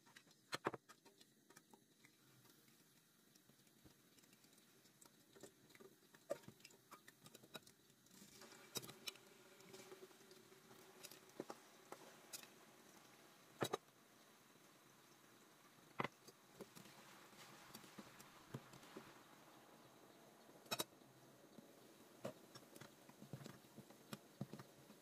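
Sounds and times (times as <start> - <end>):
faint clicks and taps: 0.0 - 12.6, 15.9 - 19.3, 20.6 - 25.0
soft hiss: 0.0 - 25.0.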